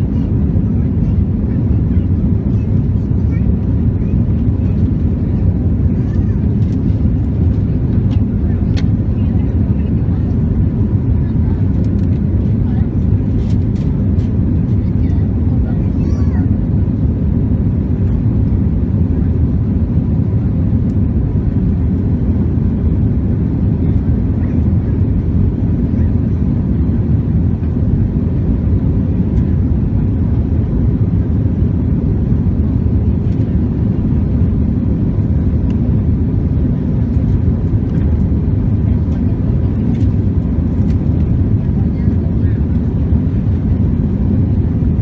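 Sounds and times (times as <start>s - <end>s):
aircraft engine roar: 0.0s - 45.0s.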